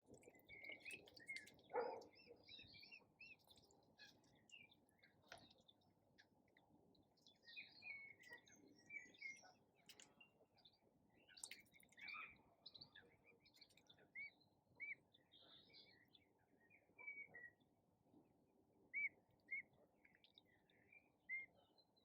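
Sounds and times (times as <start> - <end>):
small birds chirping: 0.0 - 17.8, 18.9 - 22.0.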